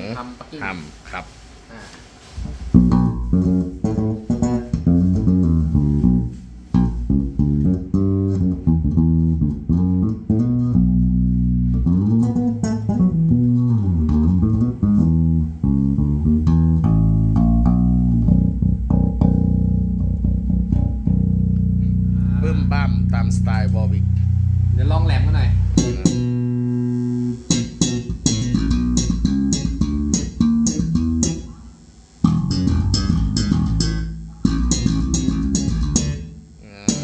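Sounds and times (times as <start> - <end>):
electric bass played fingerstyle: 2.2 - 37.0.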